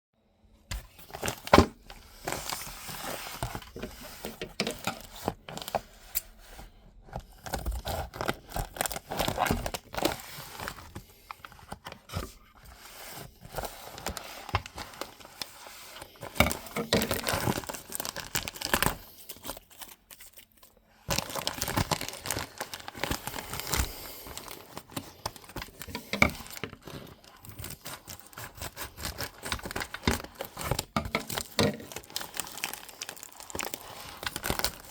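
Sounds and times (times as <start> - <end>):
packing material crinkling and tearing: 0.8 - 34.9.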